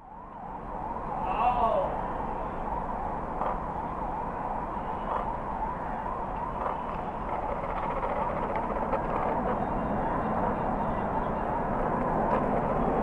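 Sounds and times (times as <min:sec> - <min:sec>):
warbling siren: 0:00.0 - 0:13.0.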